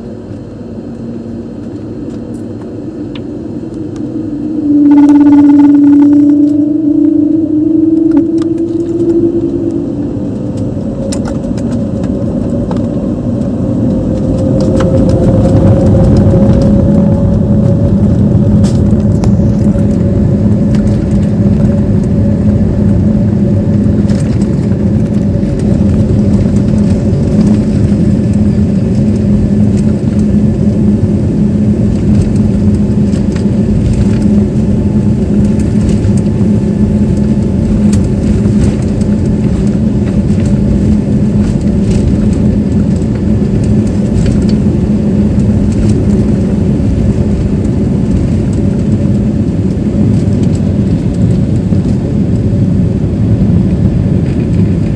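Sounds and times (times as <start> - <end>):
jet engines drone: 0.0 - 54.9
wheels rumbling on runway: 0.0 - 54.9.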